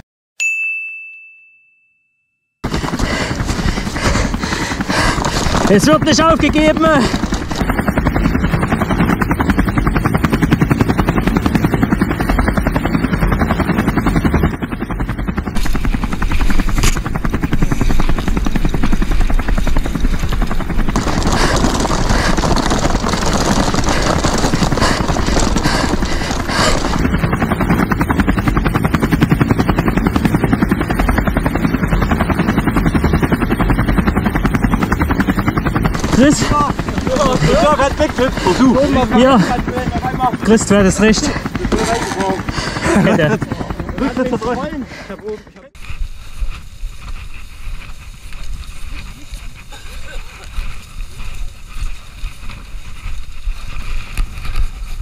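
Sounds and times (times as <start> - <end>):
helicopter rotor chopping: 2.6 - 55.0.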